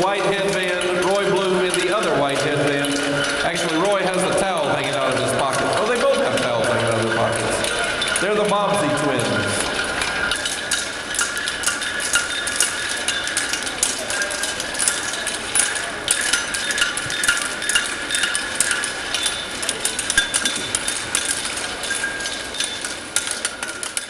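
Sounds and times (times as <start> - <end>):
hammers clanging on anvils: 0.0 - 24.0.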